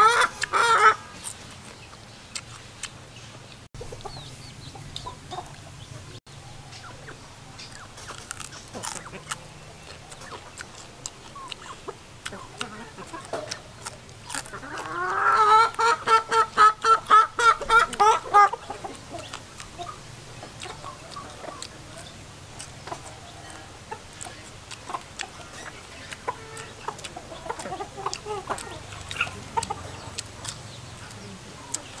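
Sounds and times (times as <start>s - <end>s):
chicken clucking: 0.0s - 32.0s.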